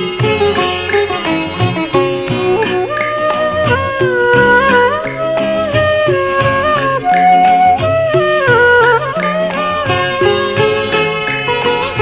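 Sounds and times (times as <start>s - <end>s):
held melody notes: 0.0s - 12.0s
plucked string notes: 0.0s - 12.0s.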